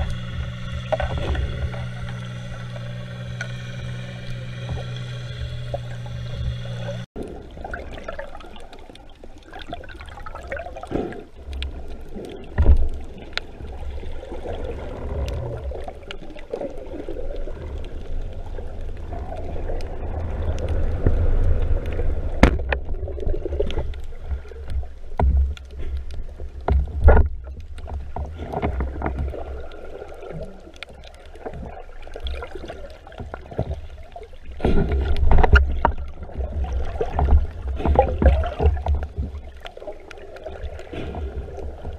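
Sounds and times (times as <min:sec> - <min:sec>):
underwater water rumble and gurgling: 0:00.0 - 0:41.9.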